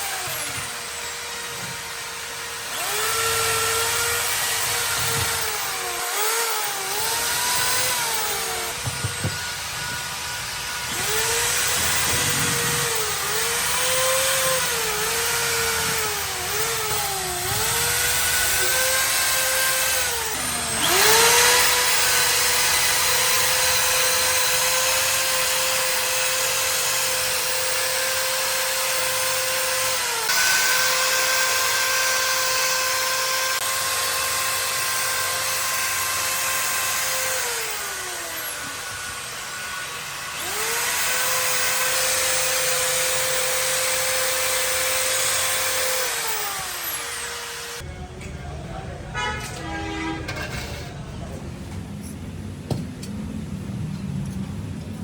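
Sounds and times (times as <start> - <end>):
power tool motor whining: 0.0 - 47.8.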